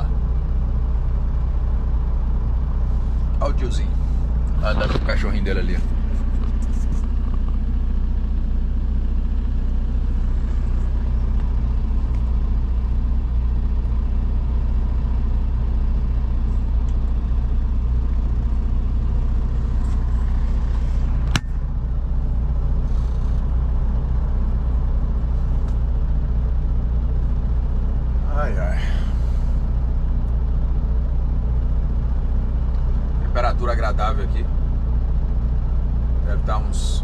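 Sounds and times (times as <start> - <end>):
truck diesel engine droning: 0.0 - 37.0.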